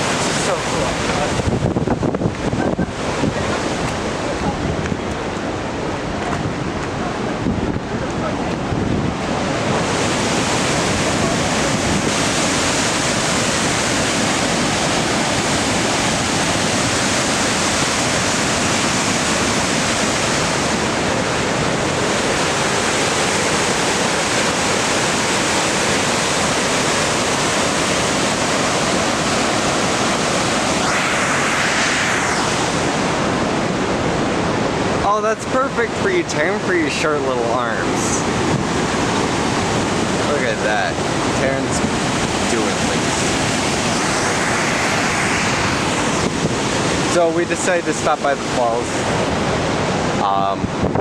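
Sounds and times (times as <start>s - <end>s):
waterfall rushing: 0.0s - 50.5s.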